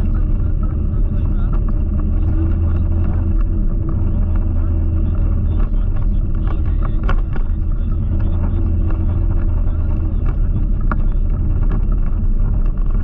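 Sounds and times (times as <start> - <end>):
tyres rolling on tarmac: 0.0 - 13.0.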